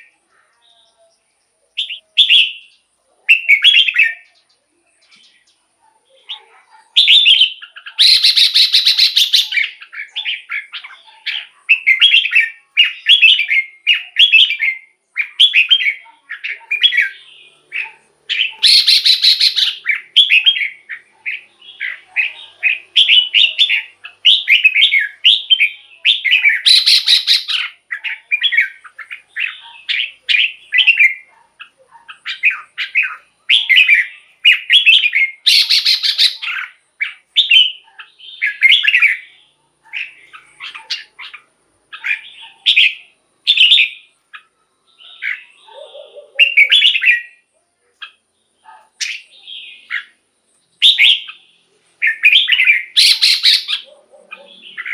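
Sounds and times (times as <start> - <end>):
bird warbling song: 0.0 - 54.9
harsh raspy bird calls: 6.3 - 50.2, 50.8 - 54.9.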